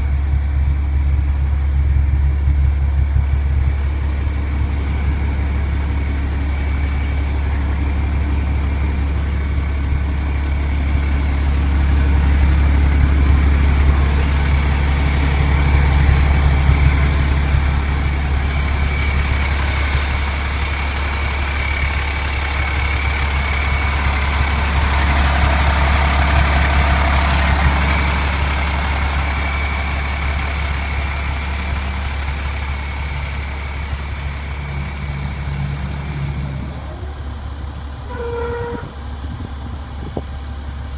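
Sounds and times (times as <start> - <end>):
high whine: 0.0 - 40.3
diesel truck engine idling: 0.0 - 40.9.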